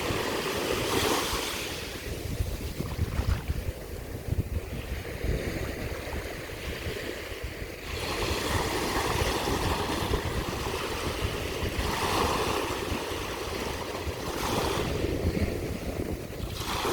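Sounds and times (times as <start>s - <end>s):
sea waves washing onto shore: 0.0s - 16.9s
wind rumble on microphone: 0.0s - 16.9s.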